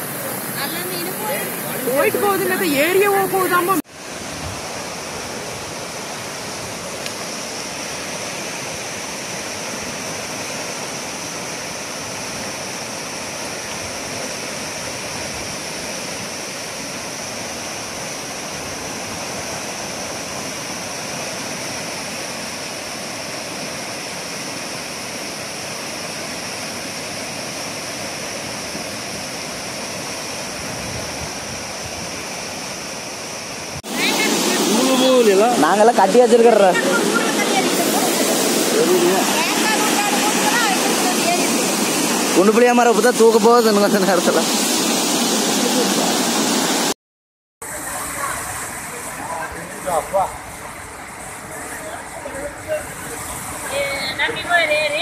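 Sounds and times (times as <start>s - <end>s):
flooded river rushing: 0.0s - 47.0s, 47.6s - 55.0s.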